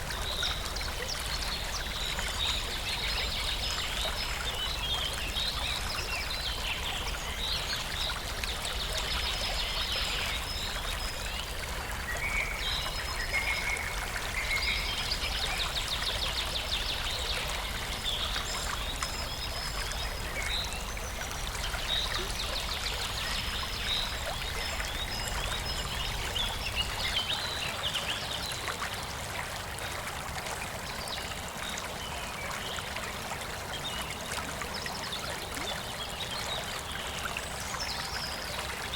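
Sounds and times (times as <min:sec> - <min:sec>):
stream running: 0:00.0 - 0:38.9.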